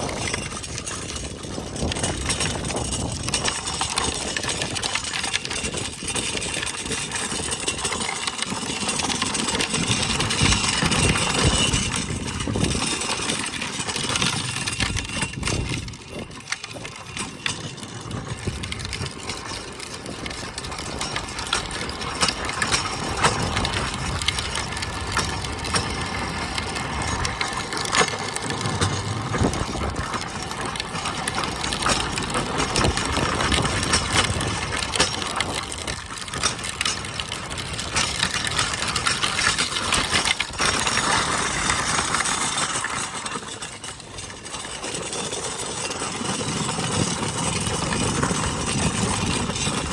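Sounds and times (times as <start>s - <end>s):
wind buffeting microphone: 0.0s - 7.9s, 9.0s - 42.4s
bike rattles and knocks: 0.0s - 49.9s.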